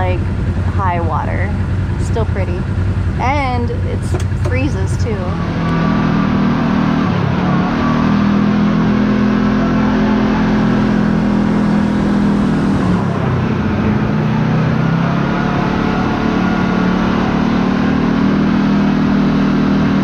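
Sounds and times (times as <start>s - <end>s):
road noise: 0.0s - 20.0s
vehicle engine running: 0.0s - 20.0s.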